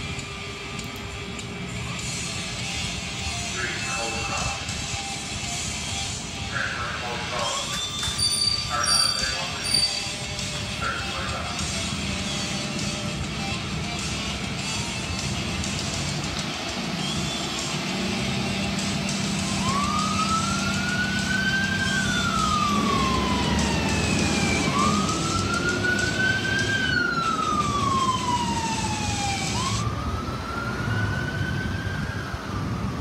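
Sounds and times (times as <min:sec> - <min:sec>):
emergency vehicle siren wailing: 0:00.0 - 0:33.0.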